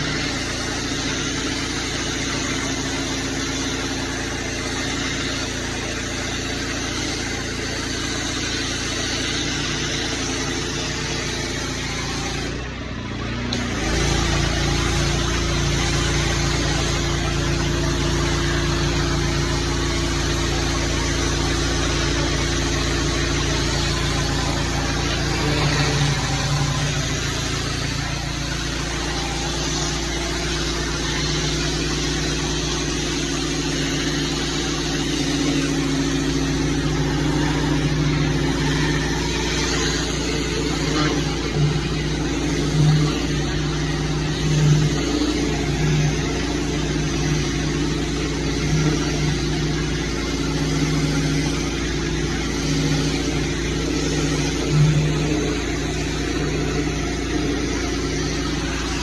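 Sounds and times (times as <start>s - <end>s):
pressure washer spray hiss: 0.0s - 12.6s, 13.5s - 59.0s
gas engine running: 0.0s - 59.0s.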